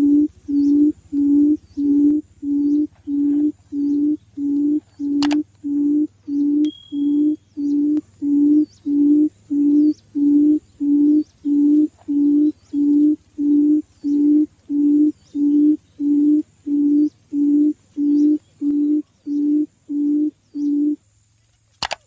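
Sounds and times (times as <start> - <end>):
quail low hooting call: 0.0 - 21.0.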